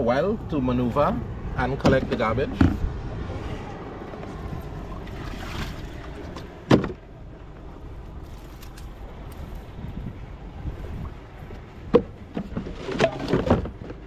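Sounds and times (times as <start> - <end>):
wind and water rumble: 0.0 - 14.0.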